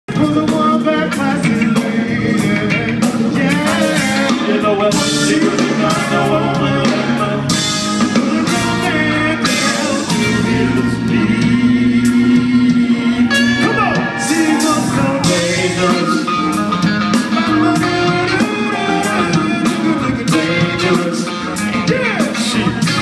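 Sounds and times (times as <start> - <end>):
live band playing: 0.1 - 23.0
man singing: 0.1 - 23.0
trumpet: 3.5 - 23.0.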